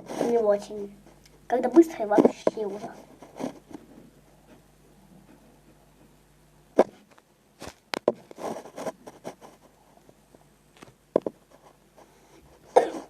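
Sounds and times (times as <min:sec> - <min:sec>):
scraping rustles: 0:00.0 - 0:01.2, 0:01.8 - 0:06.2, 0:06.8 - 0:13.0.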